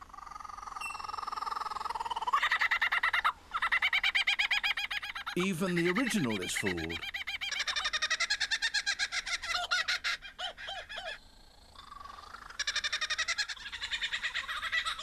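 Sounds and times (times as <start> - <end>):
kookaburra laughing call: 0.8 - 11.2, 11.8 - 15.0.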